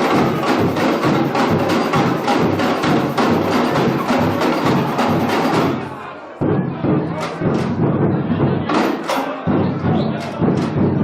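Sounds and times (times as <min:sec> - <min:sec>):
samba drum and percussion ensemble: 0:00.0 - 0:11.0.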